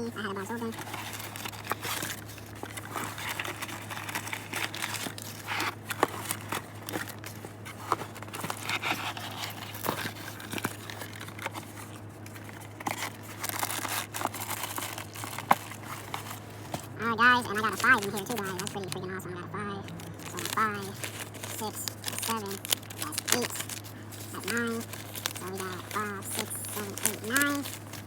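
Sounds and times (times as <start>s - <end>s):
paper money rustling: 0.0s - 28.0s
steady low hum: 0.0s - 28.0s.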